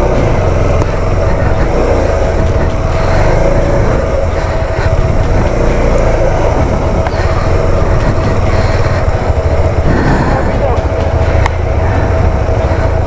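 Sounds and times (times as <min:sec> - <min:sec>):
motorcycle engine running: 0:00.0 - 0:13.0
steady whine: 0:00.0 - 0:13.0.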